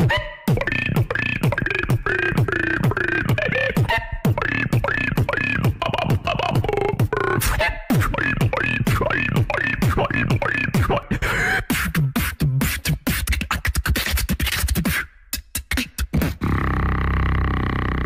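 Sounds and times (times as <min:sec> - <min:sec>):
person beatboxing into microphone: 0:00.0 - 0:18.0.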